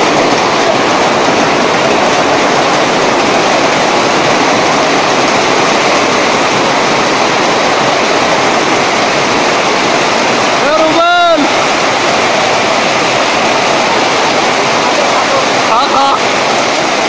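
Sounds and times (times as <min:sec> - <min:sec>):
hailstones pelting down: 0:00.0 - 0:17.0.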